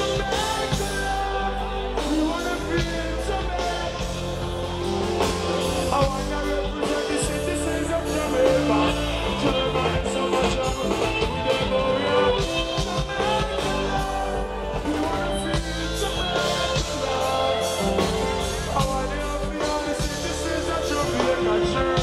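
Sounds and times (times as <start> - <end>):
live reggae band: 0.0 - 22.0
person singing: 0.0 - 22.0.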